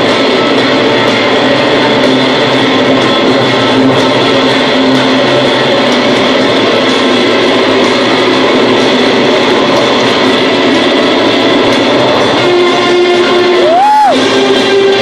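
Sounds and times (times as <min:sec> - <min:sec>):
distorted electric guitars droning: 0:00.0 - 0:15.0.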